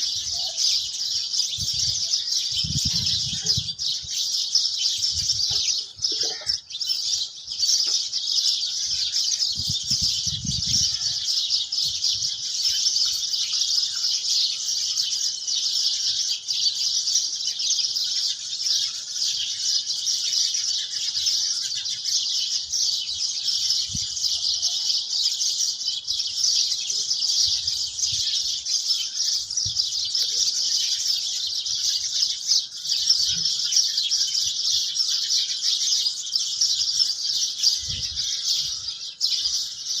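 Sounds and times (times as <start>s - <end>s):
high chirping chorus: 0.0s - 40.0s.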